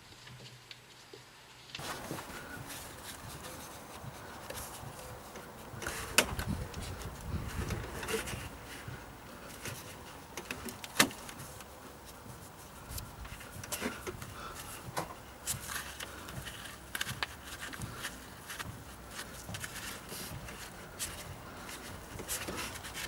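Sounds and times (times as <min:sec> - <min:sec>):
rubber belt rubbing and scraping: 0:01.8 - 0:23.0.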